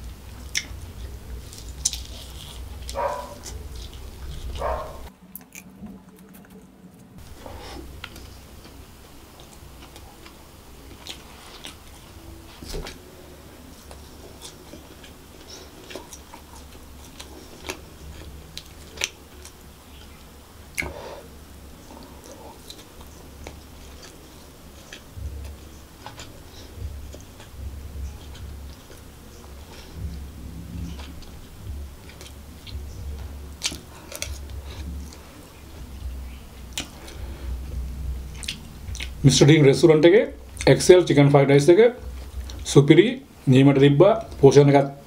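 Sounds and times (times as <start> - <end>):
close chewing: 0.0 - 21.0, 21.8 - 39.3.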